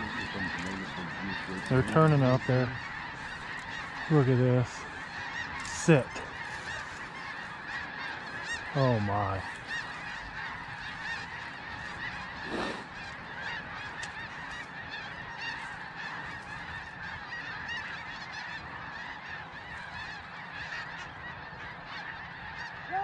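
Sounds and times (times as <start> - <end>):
geese honking: 0.0 - 23.0.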